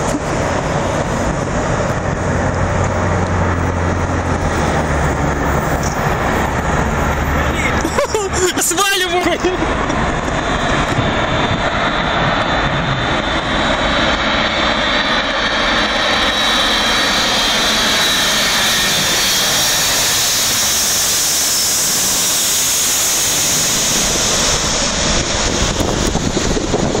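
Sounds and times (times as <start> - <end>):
jet engines flying overhead: 0.0 - 27.0.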